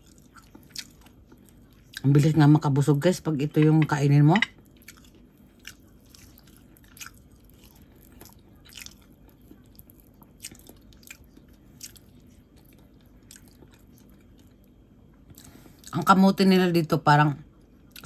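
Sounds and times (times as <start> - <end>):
chewing soft food: 0.0 - 3.0, 4.5 - 16.0, 17.5 - 18.0.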